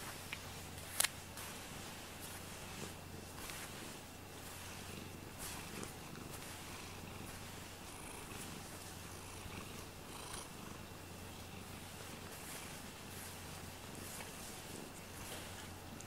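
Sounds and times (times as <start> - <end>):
cat purring: 0.1 - 16.0.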